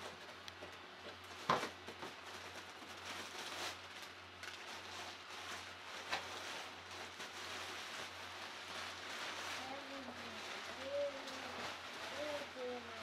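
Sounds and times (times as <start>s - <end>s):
nylon and cardboard rustling: 0.0s - 13.0s.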